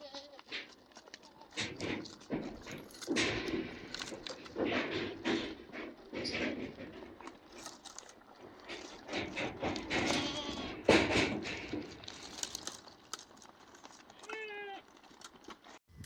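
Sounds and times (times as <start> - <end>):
rustling of leaves and twigs: 0.0 - 16.0.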